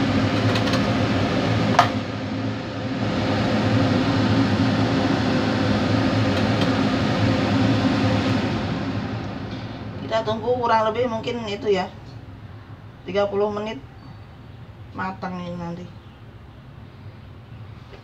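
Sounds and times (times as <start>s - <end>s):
mechanical hum with hiss: 0.0s - 18.0s.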